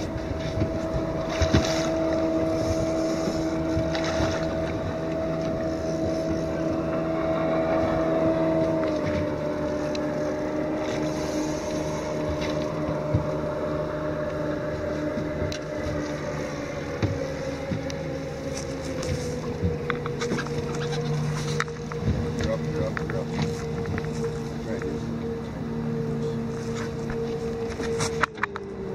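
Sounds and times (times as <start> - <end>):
boat motor running: 0.0 - 28.9.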